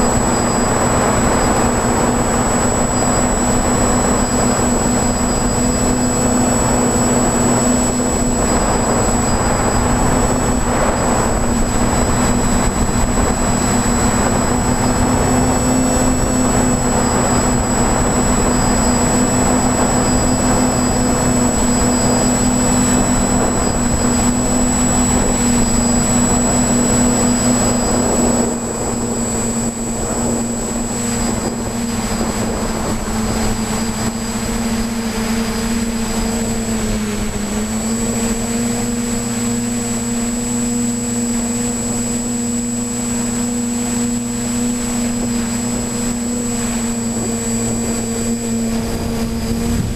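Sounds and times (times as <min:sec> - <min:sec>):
drone propellers whining: 0:00.0 - 0:49.9.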